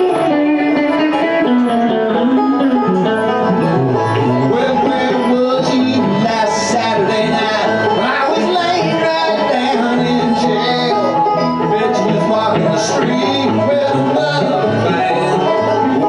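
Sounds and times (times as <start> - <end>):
banjo and electric guitar playing: 0.0 - 16.0.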